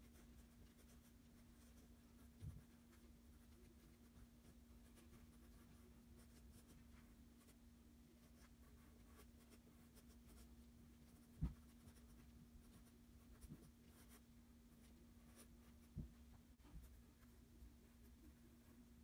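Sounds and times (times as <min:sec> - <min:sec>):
pencil scratching on paper: 0:00.0 - 0:07.6, 0:08.2 - 0:18.7.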